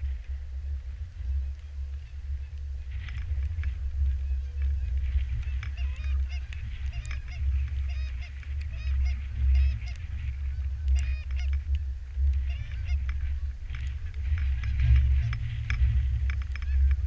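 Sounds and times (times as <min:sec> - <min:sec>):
low rumble: 0:00.0 - 0:17.0
geese honking: 0:01.2 - 0:17.0.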